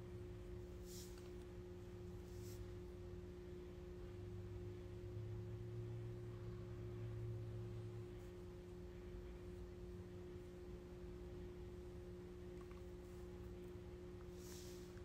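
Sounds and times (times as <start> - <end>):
faint low hum with held tones: 0.0 - 15.0.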